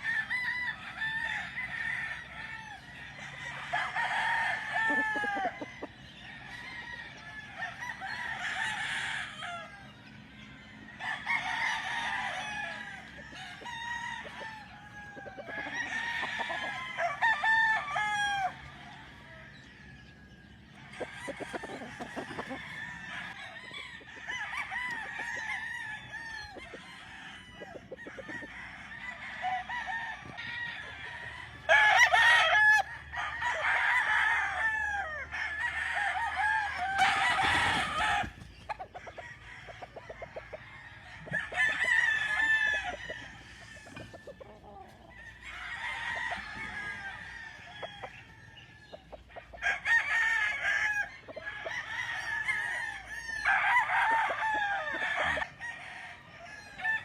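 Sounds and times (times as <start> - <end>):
hens clucking: 0.0 - 57.0
roosters crowing: 0.0 - 57.0.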